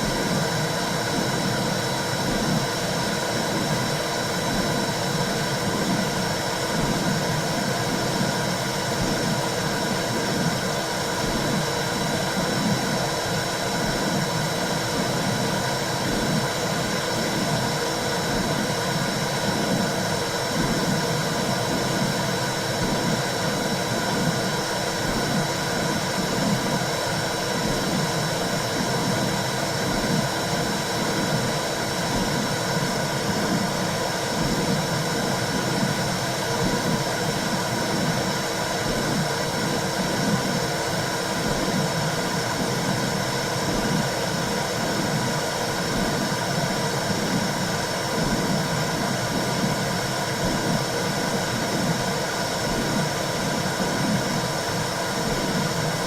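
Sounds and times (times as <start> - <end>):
low heartbeat pulse: 0.0 - 40.7, 41.4 - 56.0.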